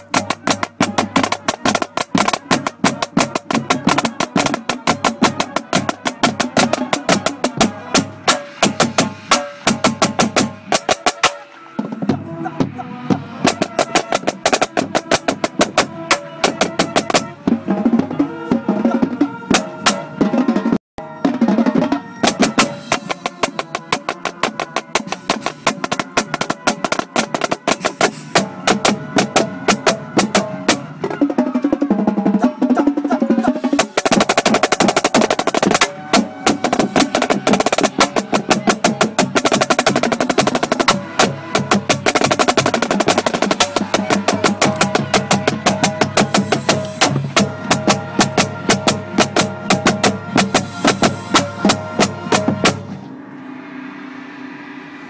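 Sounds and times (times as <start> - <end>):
marching snare drum: 0.0 - 52.9
marching band brass and percussion: 0.0 - 55.0.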